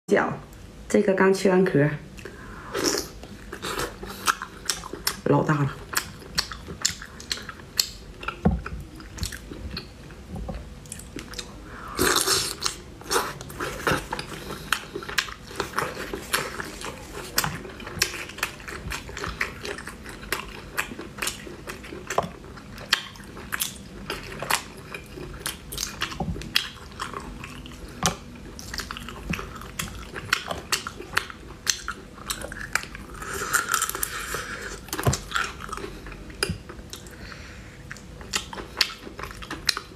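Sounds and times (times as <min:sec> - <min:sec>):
chewing: 0:02.2 - 0:39.9.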